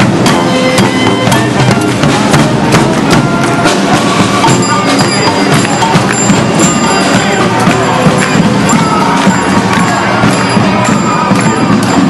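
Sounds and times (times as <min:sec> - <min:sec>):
brass band playing: 0:00.0 - 0:12.0
steady drumbeat: 0:00.0 - 0:12.0.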